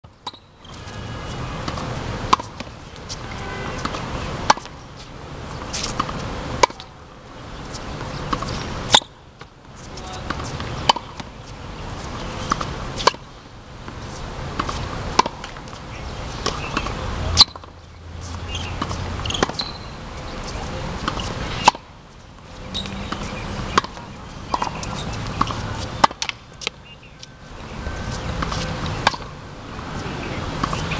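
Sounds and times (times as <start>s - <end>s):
steady background noise: 0.0s - 30.9s
tennis racket hitting balls: 0.2s - 27.3s, 27.9s - 30.9s.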